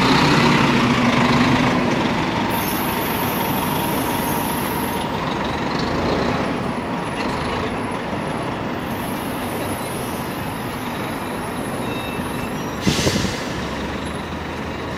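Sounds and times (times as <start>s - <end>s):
bus pulling away: 0.0s - 14.9s
street traffic noise: 0.0s - 14.9s.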